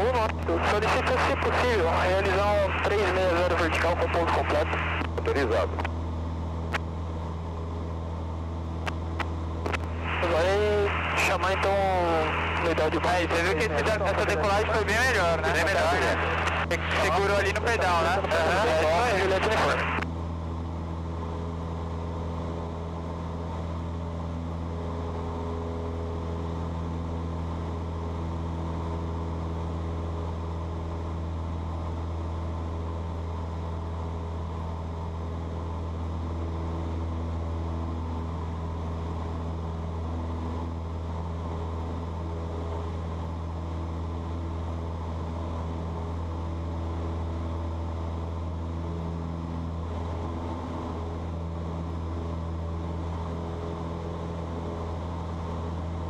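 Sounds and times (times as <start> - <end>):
aircraft engine and propeller droning: 0.0 - 56.0.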